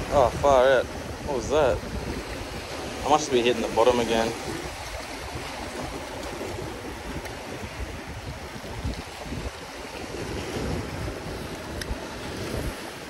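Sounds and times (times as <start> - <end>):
small waves washing over rocks: 0.0 - 13.0
wind buffeting microphone: 0.0 - 13.0.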